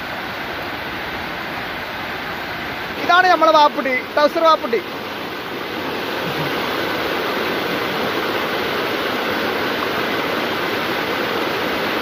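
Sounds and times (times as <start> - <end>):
waterfall rushing and splashing: 0.0 - 12.0.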